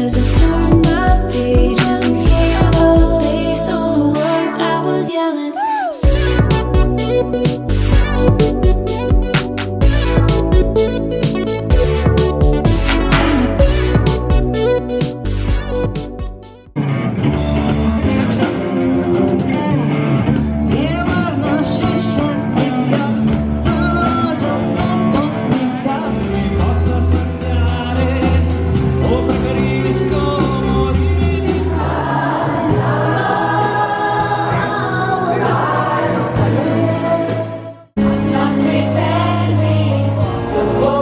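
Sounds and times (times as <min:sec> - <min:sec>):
song with singing over bass line: 0:00.0 - 0:16.4, 0:18.6 - 0:41.0.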